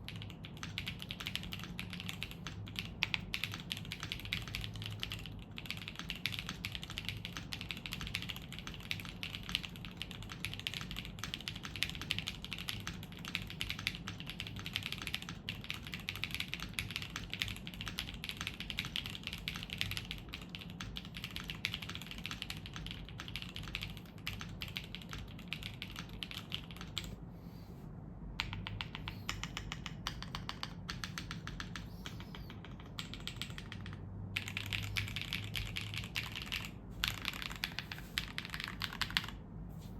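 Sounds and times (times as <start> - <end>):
mechanical keyboard typing: 0.0 - 27.2, 28.4 - 39.4.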